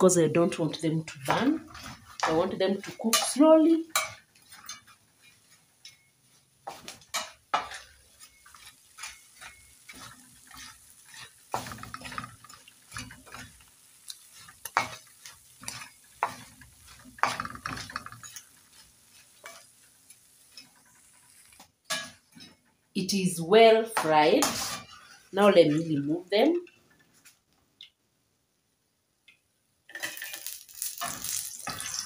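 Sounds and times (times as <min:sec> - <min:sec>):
oil sizzling: 0:00.0 - 0:32.0
spatula scraping pan: 0:00.4 - 0:22.8, 0:23.7 - 0:27.2, 0:29.9 - 0:32.0.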